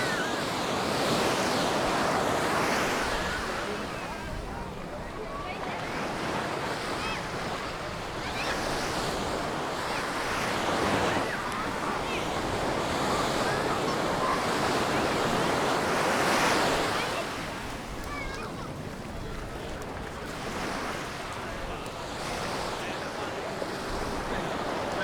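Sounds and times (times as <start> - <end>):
small waves washing up beach: 0.0 - 25.0.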